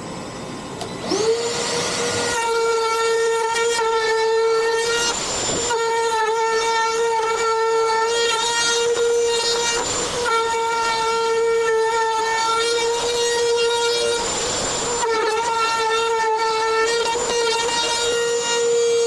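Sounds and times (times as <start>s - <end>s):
power tool motor whine: 0.0s - 19.0s.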